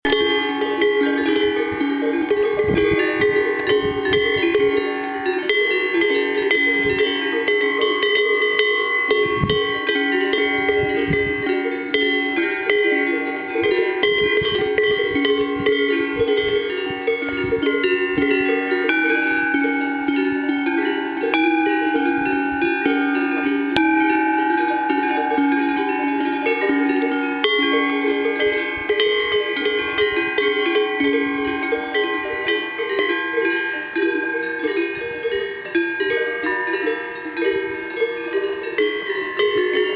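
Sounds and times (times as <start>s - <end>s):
cowbells clanging: 0.0s - 39.9s.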